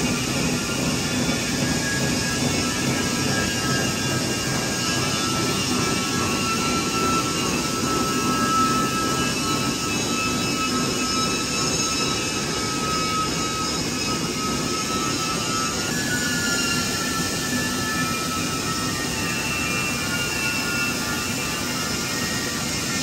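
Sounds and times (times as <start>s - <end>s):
high steady whine: 0.0s - 23.0s
lower sliding whine: 0.0s - 23.0s.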